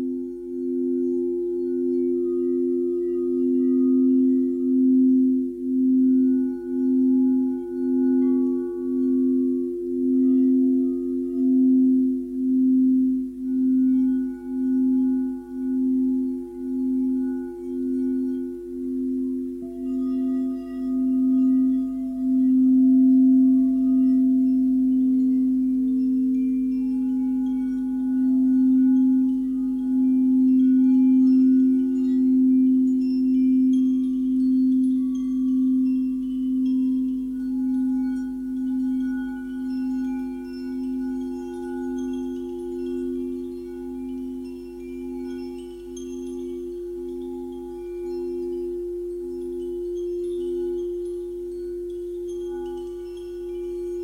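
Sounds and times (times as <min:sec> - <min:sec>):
faint high ringing tones: 0:00.0 - 0:54.0
singing bowls low tone: 0:00.0 - 0:54.0.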